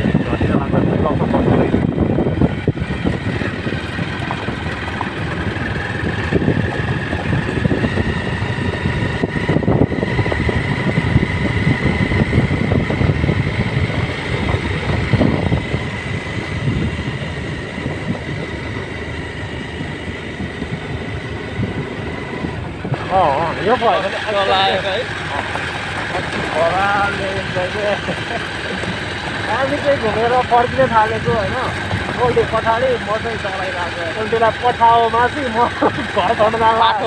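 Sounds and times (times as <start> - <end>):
motorcycle engine running: 0.0 - 37.0
wind rumble on microphone: 0.0 - 37.0.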